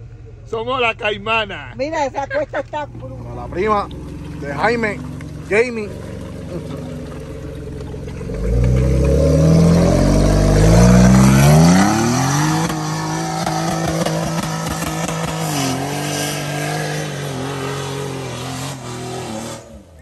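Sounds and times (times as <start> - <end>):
engine revving hard: 3.2 - 20.0.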